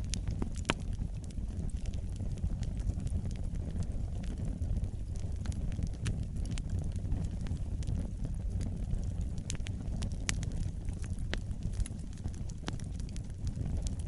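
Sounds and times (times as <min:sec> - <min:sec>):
fire crackles and pops: 0:00.0 - 0:14.0
fire rumbling: 0:00.0 - 0:14.0.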